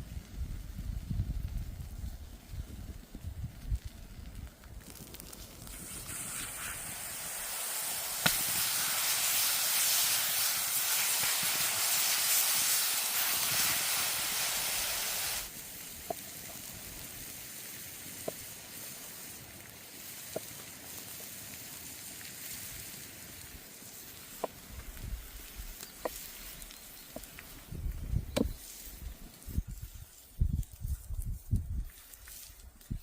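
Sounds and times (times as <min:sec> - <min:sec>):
faint crackles: 0:00.0 - 0:33.0
food sizzling: 0:02.5 - 0:30.7.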